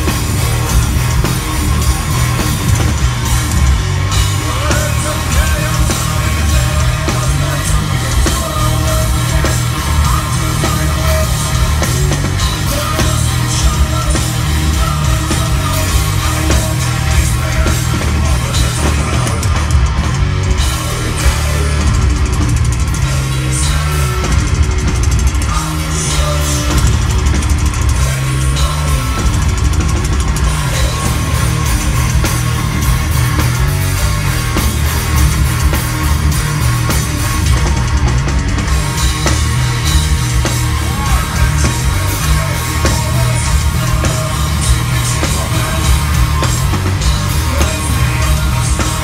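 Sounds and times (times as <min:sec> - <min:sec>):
heavy metal band playing live: 0:00.0 - 0:49.0.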